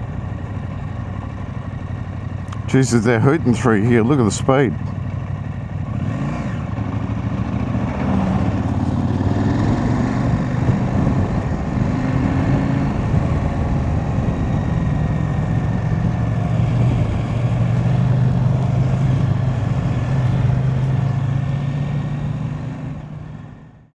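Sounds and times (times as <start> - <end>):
motorcycle engine running: 0.0 - 23.9
tyres on gravel road: 0.0 - 23.9
wind: 0.0 - 23.9.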